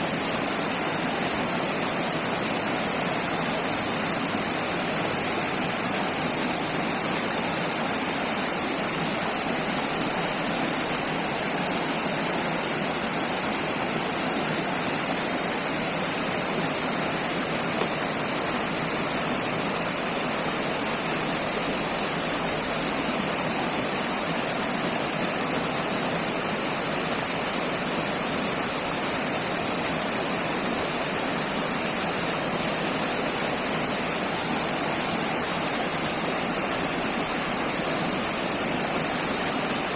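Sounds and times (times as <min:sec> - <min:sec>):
river water rushing and splashing: 0:00.0 - 0:39.9.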